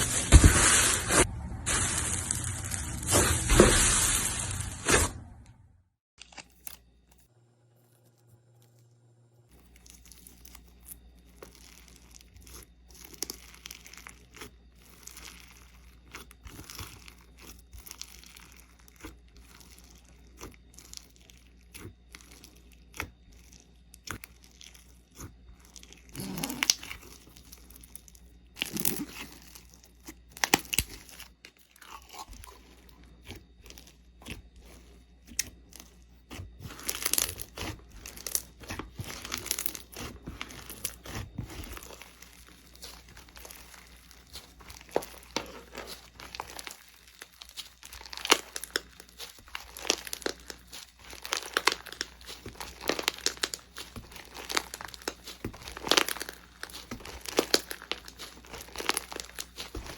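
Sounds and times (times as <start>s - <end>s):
slime crunching and popping: 9.5s - 59.9s.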